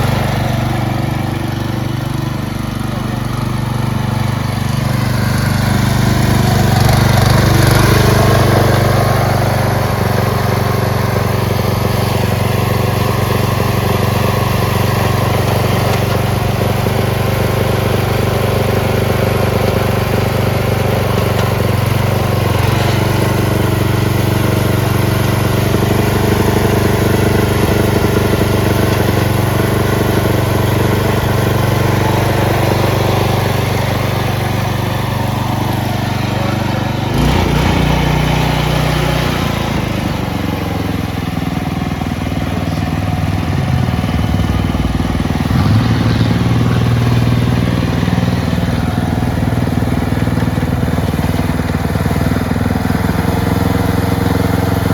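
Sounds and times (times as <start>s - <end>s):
lawn tractor engine running: 0.0s - 54.9s.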